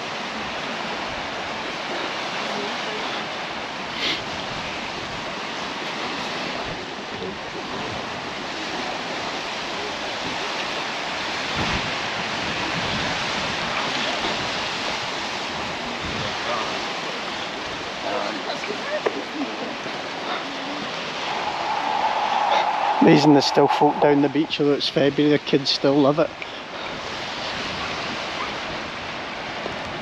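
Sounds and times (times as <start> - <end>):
sea surf washing on beach: 0.0 - 30.0
wind buffeting microphone: 3.2 - 18.1, 18.8 - 25.7, 26.7 - 30.0.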